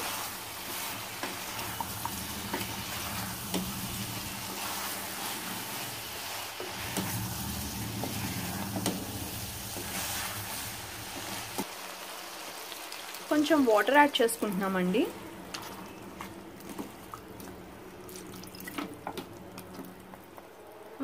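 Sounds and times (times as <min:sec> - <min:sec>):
food sizzling in oil: 0:00.0 - 0:17.4.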